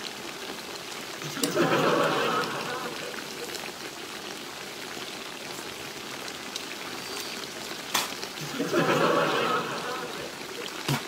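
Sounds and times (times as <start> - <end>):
faint crackly hiss: 0.0 - 11.0.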